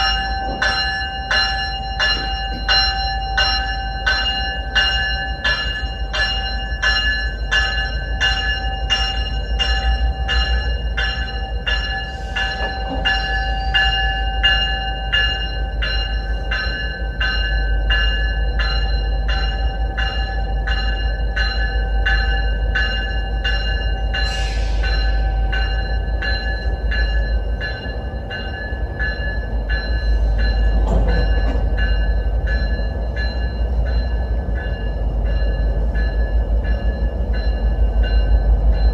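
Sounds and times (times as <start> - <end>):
locomotive bell ringing: 0.0 - 38.9
train rumble: 0.0 - 38.9.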